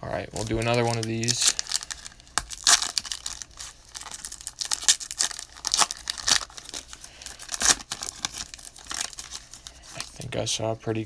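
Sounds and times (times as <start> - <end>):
wrapper tearing and crinkling: 0.0 - 10.2.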